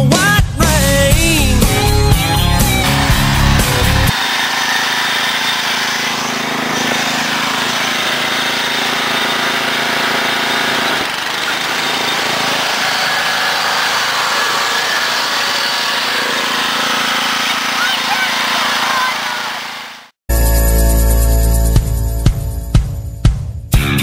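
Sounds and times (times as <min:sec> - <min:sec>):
lawn tractor engine running: 0:00.6 - 0:20.2.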